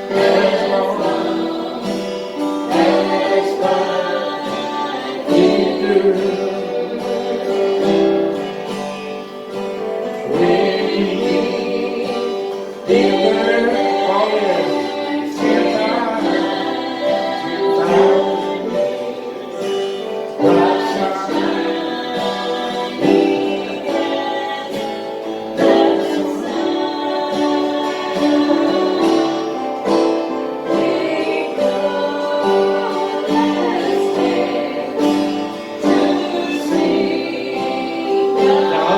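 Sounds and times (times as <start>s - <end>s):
group singing a hymn: 0.0s - 38.9s
guitar: 0.0s - 38.9s.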